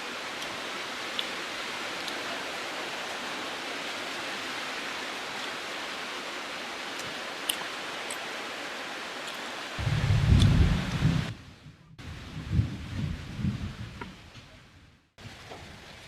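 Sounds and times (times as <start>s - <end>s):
heavy rain hissing: 0.0s - 14.3s.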